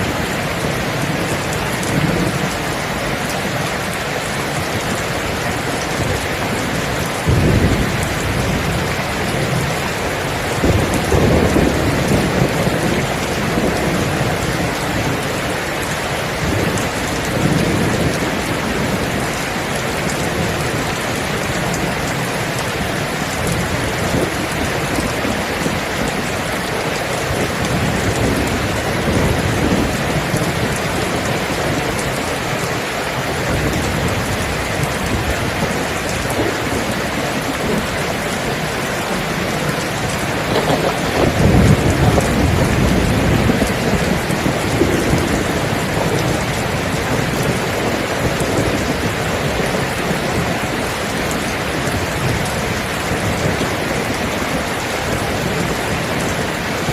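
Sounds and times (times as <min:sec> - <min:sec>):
heavy rain falling: 0:00.0 - 0:56.9
thunder rumbling: 0:00.0 - 0:56.9.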